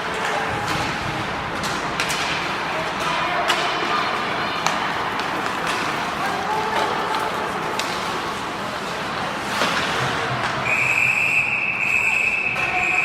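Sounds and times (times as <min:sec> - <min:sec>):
hockey sticks knocking puck: 0:00.0 - 0:10.7
crowd and rink noise: 0:00.0 - 0:13.0.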